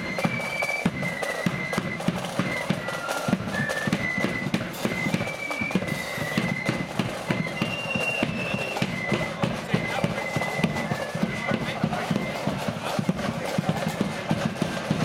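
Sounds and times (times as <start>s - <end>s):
busy drumming: 0.0s - 15.0s
high flute melody: 0.0s - 15.0s.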